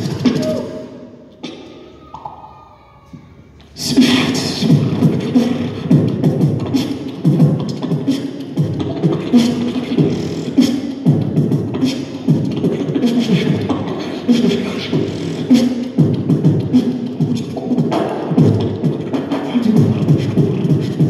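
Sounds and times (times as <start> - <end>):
beatboxing snare and hi-hat clicks: 0.0 - 0.6, 3.9 - 21.0
beatboxing bass kicks: 0.0 - 0.7, 3.8 - 21.0.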